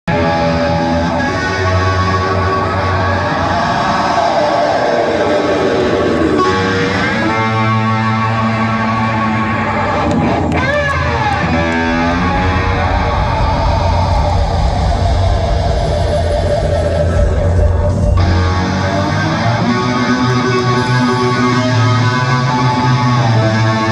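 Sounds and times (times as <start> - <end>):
distorted electric guitar: 0.0 - 23.9
live hard rock band: 0.1 - 23.9.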